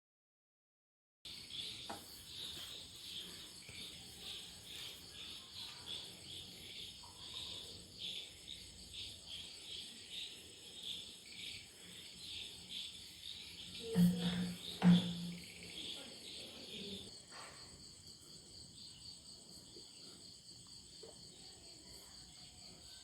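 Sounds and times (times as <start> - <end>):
crickets chirping: 1.3 - 23.0.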